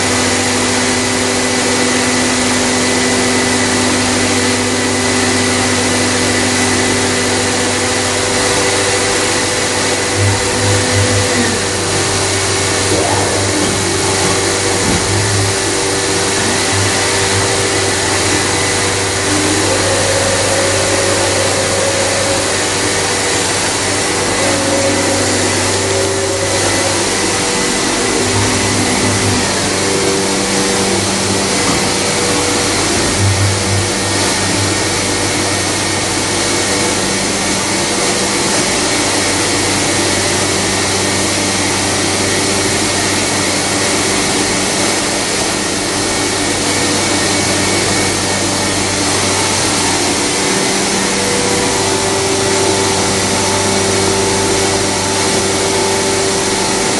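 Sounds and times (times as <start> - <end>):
machining center running: 0.0 - 56.9.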